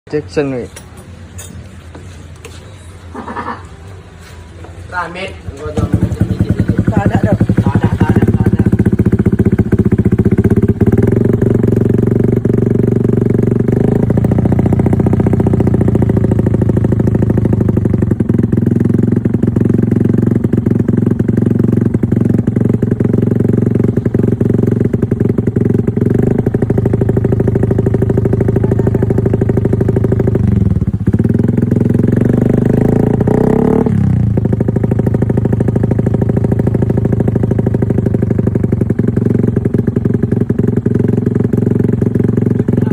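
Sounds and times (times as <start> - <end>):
scooter engine idling: 4.6 - 42.9
scooter throttle rev: 5.7 - 42.9.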